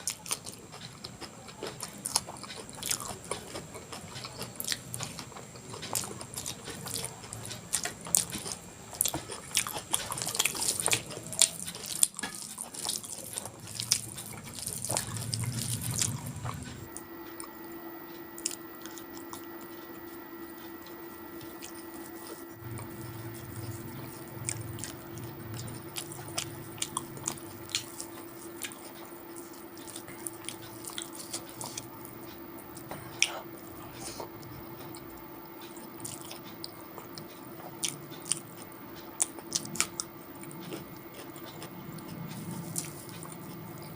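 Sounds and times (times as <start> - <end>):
person chewing food: 0.0 - 43.9
steady low hum: 0.0 - 43.9.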